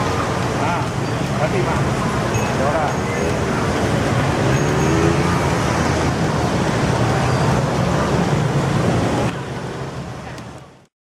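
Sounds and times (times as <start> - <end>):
faint voices: 0.0 - 10.7
road traffic: 0.0 - 10.9.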